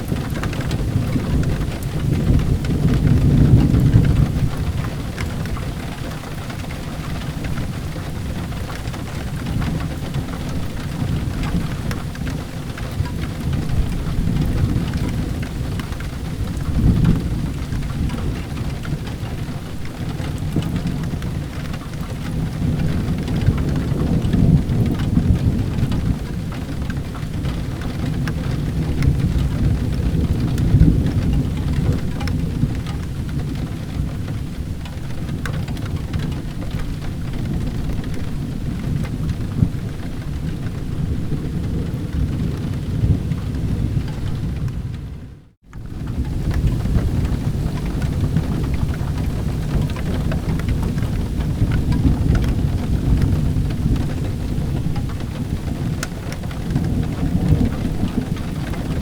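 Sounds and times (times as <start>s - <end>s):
low thunder rumbling: 0.0s - 59.0s
steady rain: 0.0s - 59.0s.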